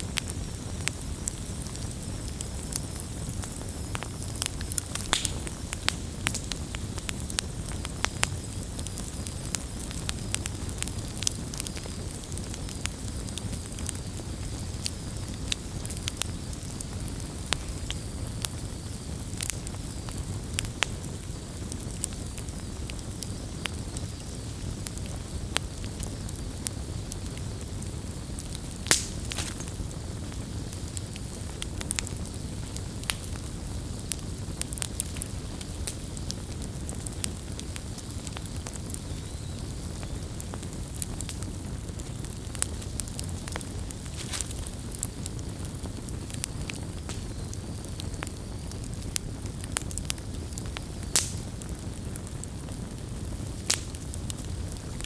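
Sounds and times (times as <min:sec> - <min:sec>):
campfire crackles and pops: 0:00.0 - 0:55.0
low rumble of flames: 0:00.0 - 0:55.0.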